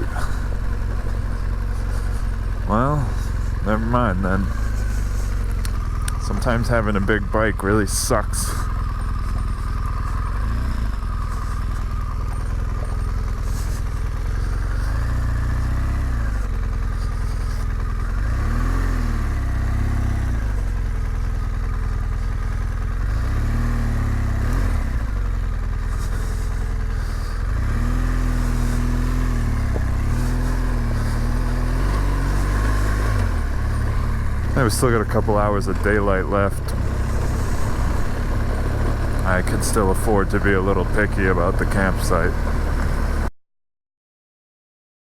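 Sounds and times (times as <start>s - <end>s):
motorcycle engine revving: 0.0s - 43.3s.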